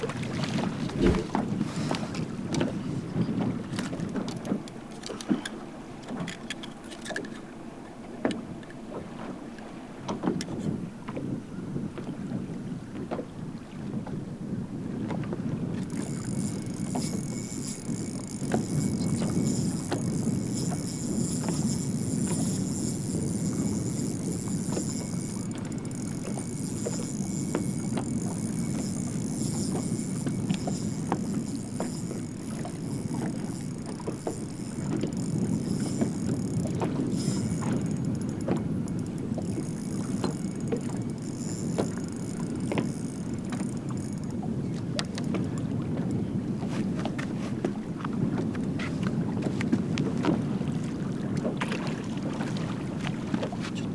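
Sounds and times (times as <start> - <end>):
wind on microphone: 0.0 - 4.2, 10.4 - 53.9
water sloshing against hull: 0.0 - 53.9.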